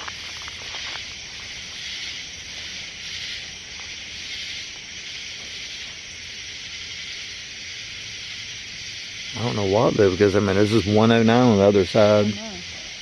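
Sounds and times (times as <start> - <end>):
insects chorus hiss: 0.0 - 13.0.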